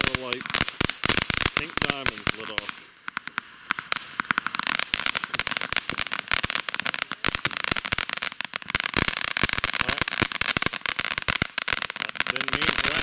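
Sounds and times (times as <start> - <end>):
firework fountain hissing and crackling: 0.0 - 13.0.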